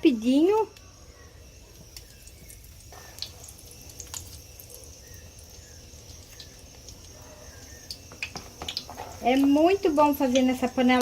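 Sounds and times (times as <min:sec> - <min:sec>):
batter sizzling in hot oil: 0:00.1 - 0:11.0
oil crackling and popping: 0:00.5 - 0:11.0.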